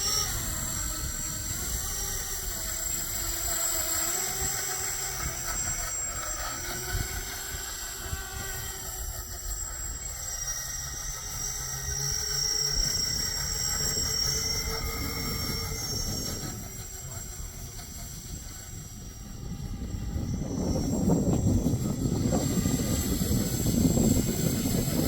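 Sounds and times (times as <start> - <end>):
high steady whine: 0.0 - 25.0
model propeller motors humming: 0.0 - 25.0.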